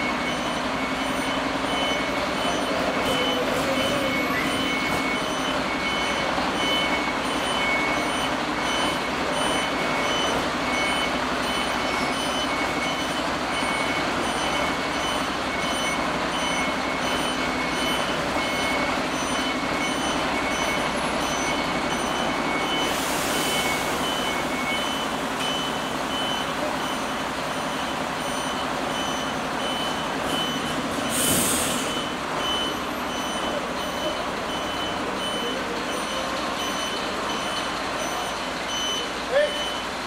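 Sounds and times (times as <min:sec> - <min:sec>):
reversing alarm beeping: 0:00.0 - 0:40.0
truck engine running: 0:00.0 - 0:40.0.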